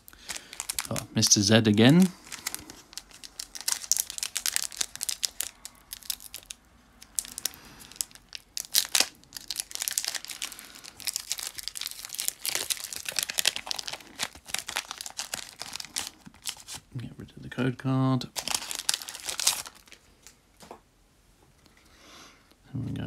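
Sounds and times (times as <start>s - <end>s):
foil wrapper tearing and crinkling: 0.0s - 16.9s, 18.4s - 20.4s.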